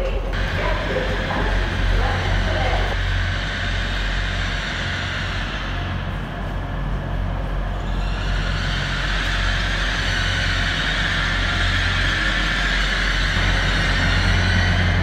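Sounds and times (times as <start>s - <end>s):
train approaching: 0.0s - 15.0s.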